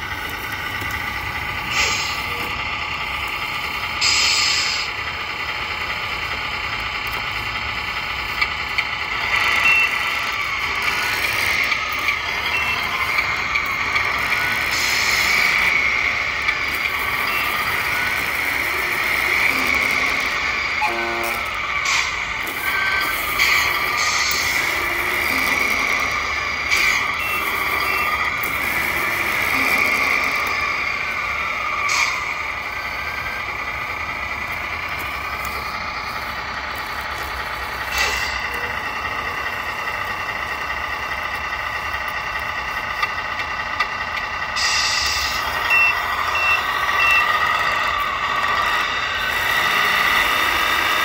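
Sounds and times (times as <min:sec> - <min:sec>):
mechanical vehicle sound: 0:00.0 - 0:51.0
toy truck drivetrain whine: 0:00.0 - 0:51.0.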